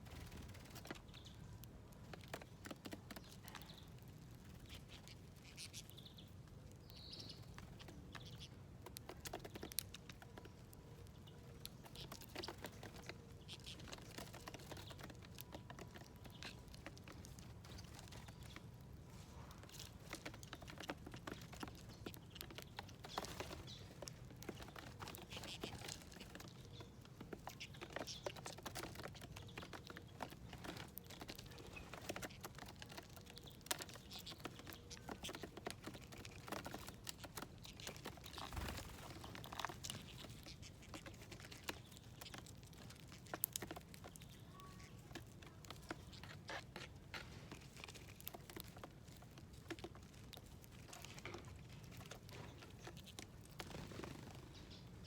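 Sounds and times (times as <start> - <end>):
birds pecking at seeds: 0.0 - 55.0.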